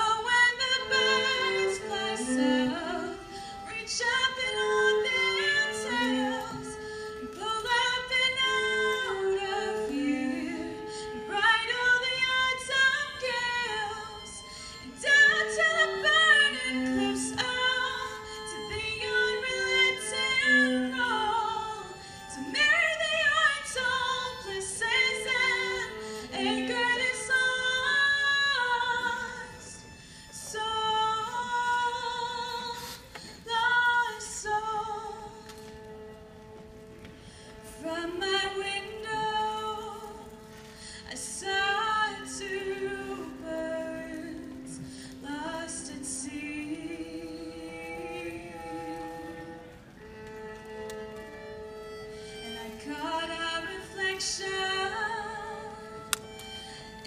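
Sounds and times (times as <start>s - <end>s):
woman singing into microphone: 0.0s - 29.8s, 30.4s - 35.5s, 37.7s - 49.7s, 52.4s - 56.2s
violin and viola: 0.0s - 57.0s.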